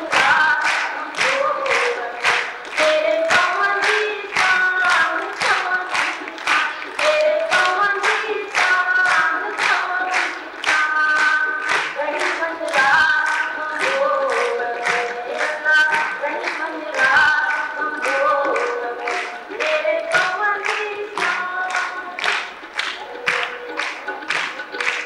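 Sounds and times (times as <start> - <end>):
woman singing folk song: 0.0 - 22.5
hand claps keeping time: 0.0 - 25.0.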